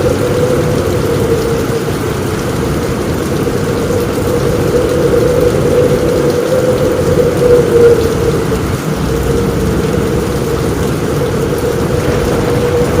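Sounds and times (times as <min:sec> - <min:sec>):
heavy rain on a roof: 0:00.0 - 0:13.0.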